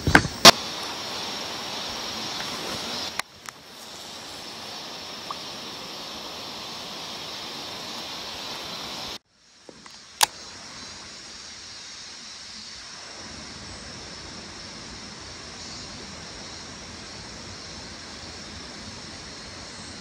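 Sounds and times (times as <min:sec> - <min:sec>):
running water hiss: 0:00.0 - 0:20.0.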